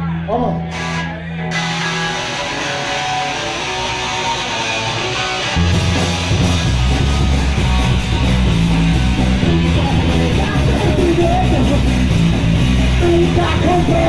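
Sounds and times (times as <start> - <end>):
bass guitar: 0.0 - 14.0
guitar strumming: 0.6 - 14.0
drums: 0.8 - 14.0.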